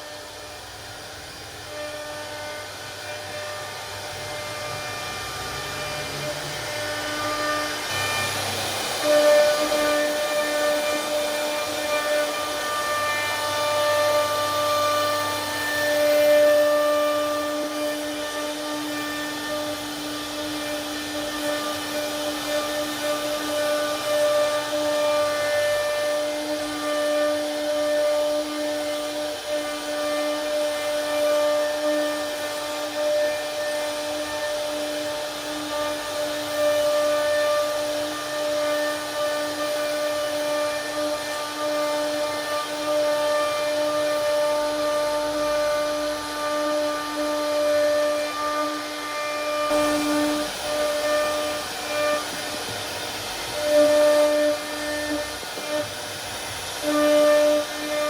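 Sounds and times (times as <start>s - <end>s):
rough wood cutting noise: 0.0s - 58.0s
router spindle whining: 0.0s - 58.0s.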